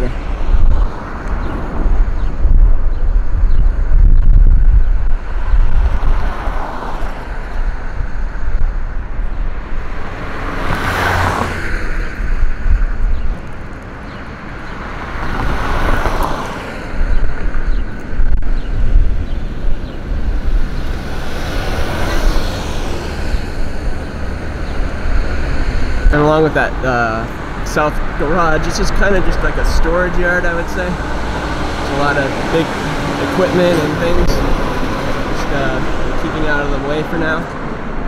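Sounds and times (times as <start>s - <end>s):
road noise rumble: 0.0s - 38.0s
vehicles passing: 0.0s - 38.0s
wind buffeting microphone: 0.0s - 38.0s.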